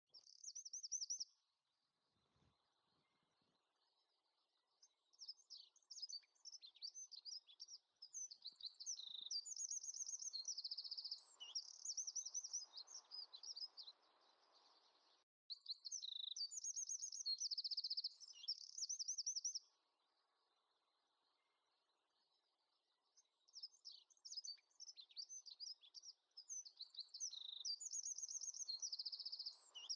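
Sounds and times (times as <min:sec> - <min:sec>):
songbird chirping and trilling: 0:00.0 - 0:29.9.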